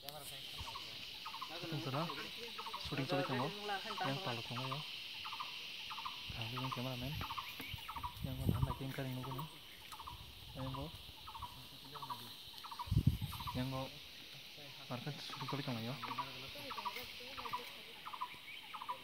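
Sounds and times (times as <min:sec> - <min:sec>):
insect chirping: 0:00.0 - 0:19.0
insects buzzing: 0:00.0 - 0:19.0
people's voices: 0:00.0 - 0:19.0.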